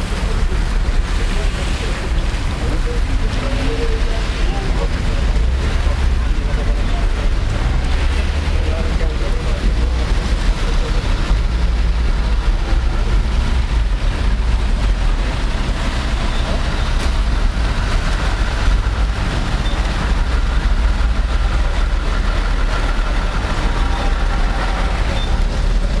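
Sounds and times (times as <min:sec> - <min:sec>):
rumble of passing vehicles: 0:00.0 - 0:26.0.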